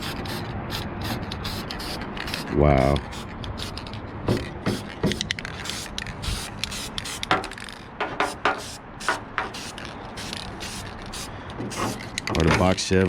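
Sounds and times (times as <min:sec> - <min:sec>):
spray paint can hissing: 0:00.0 - 0:12.2.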